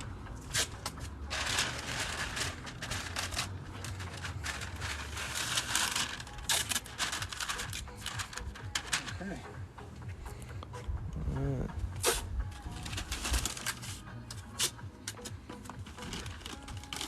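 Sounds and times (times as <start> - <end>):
rustling and crinkling: 0.0 - 9.3, 12.0 - 17.0.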